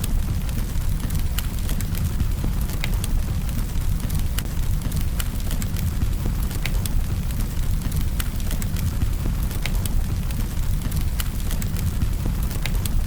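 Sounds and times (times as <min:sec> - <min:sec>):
burning wood crackling and popping: 0:00.0 - 0:13.0
campfire low rumble: 0:00.0 - 0:13.0.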